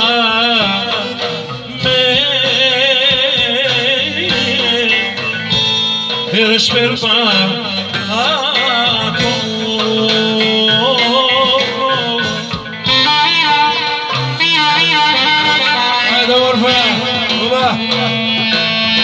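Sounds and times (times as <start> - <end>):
drums: 0.0 - 19.0
electric guitar: 0.0 - 19.0
live band playing folk dance music: 0.0 - 19.0.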